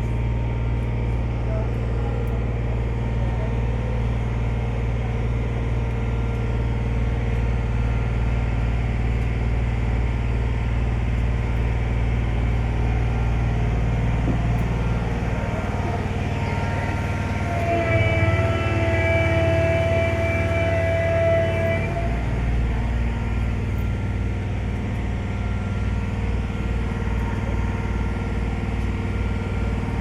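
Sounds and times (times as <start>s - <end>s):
ferry engine droning: 0.0s - 30.0s.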